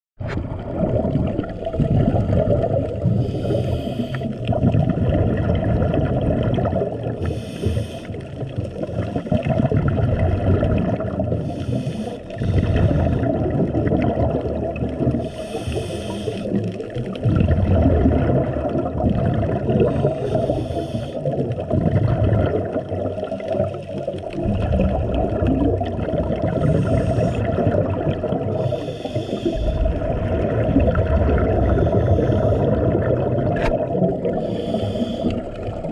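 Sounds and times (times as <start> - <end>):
low underwater rumble: 0.2 - 7.6, 8.2 - 11.6, 12.4 - 20.8, 21.4 - 35.9
regulator bubbles gurgling: 0.2 - 35.9.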